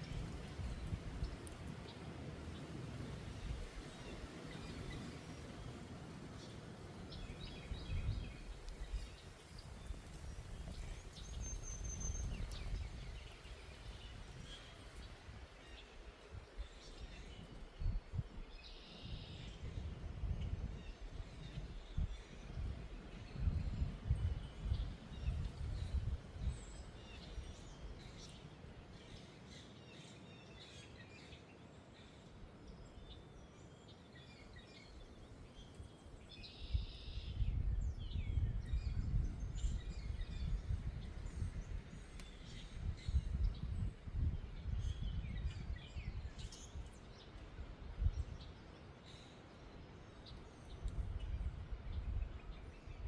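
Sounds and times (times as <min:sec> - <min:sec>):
wind gusting against microphone: 0:00.0 - 0:29.2, 0:34.8 - 0:48.7, 0:50.3 - 0:53.0.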